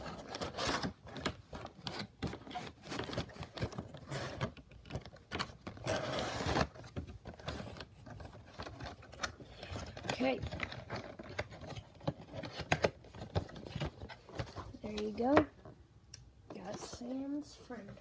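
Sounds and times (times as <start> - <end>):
vinyl figure and box handled: 0.0 - 15.8.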